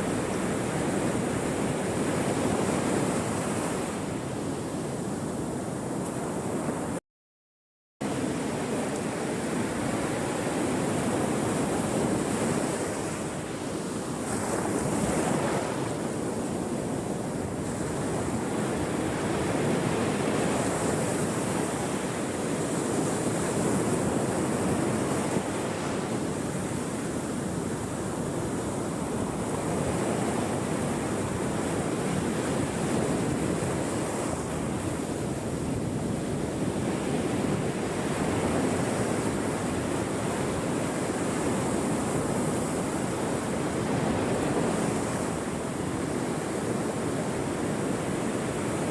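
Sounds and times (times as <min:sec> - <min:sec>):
ocean surf washing onto shore: 0:00.0 - 0:07.0, 0:08.0 - 0:48.9.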